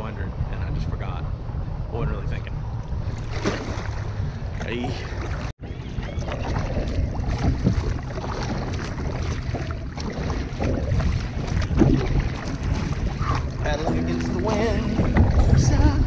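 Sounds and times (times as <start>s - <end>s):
wind buffeting microphone: 0.0s - 16.0s
paddle splashing in water: 3.1s - 16.0s.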